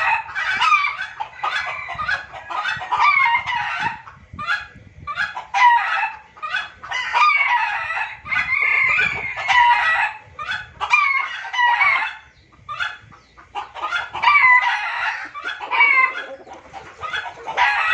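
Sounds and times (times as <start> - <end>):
junglefowl clucking and crowing: 0.0 - 17.9.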